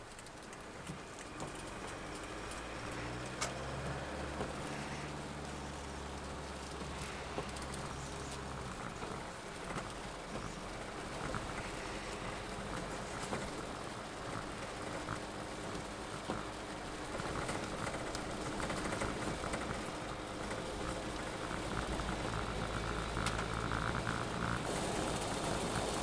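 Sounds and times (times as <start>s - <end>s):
engine and road noise hum: 0.0s - 26.0s
rain pattering on a vehicle: 0.0s - 26.0s.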